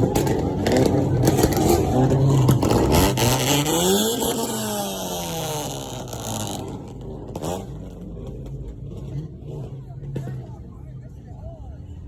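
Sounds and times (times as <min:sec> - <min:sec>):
car engine revving: 0:00.0 - 0:10.5.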